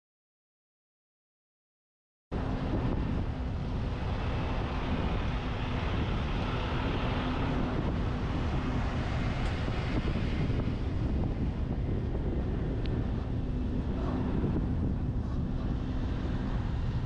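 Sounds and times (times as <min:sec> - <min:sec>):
road and vehicle rumble: 0:02.3 - 0:17.0
wind rushing over microphone: 0:02.3 - 0:17.0.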